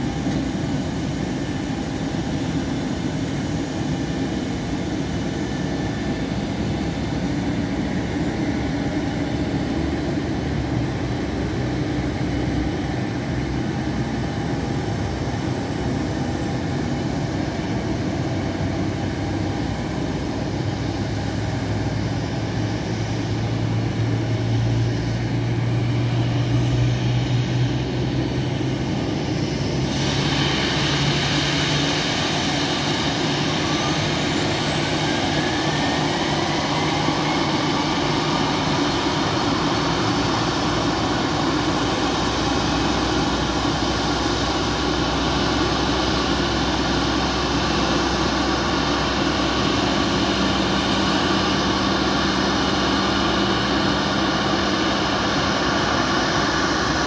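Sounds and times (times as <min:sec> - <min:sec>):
jet engine spooling up: 0:00.0 - 0:57.0.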